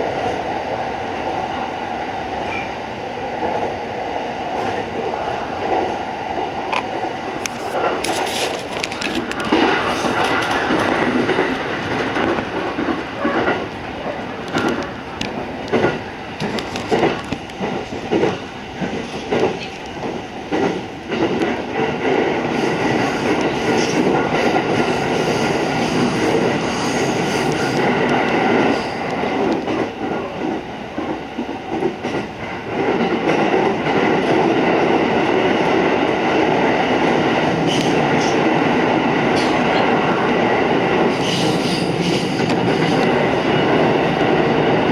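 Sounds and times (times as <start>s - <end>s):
train wheels clattering: 5.6s - 44.9s.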